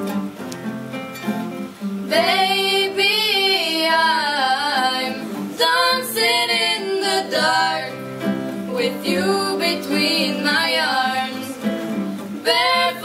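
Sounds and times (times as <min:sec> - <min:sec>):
acoustic guitar: 0:00.0 - 0:13.0
girls singing: 0:02.1 - 0:13.0.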